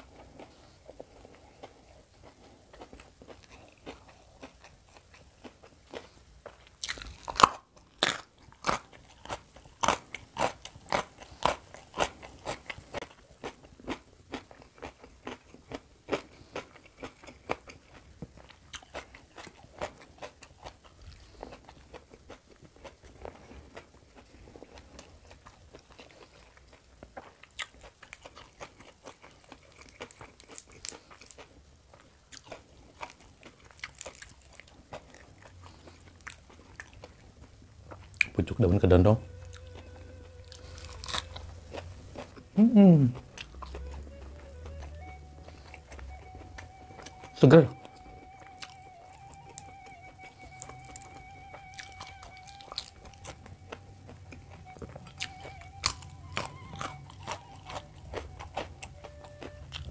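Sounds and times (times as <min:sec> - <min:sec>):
crunching raw vegetables: 0:00.0 - 0:59.9.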